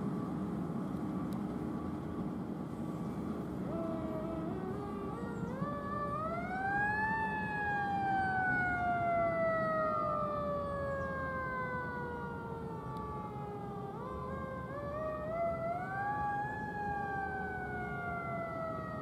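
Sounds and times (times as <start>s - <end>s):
low road rumble: 0.0s - 19.0s
siren wailing: 3.6s - 19.0s.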